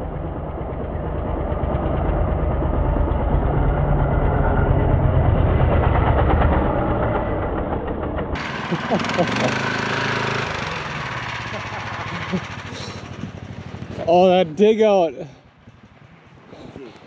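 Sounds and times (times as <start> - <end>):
snow sled engine: 0.0 - 17.0.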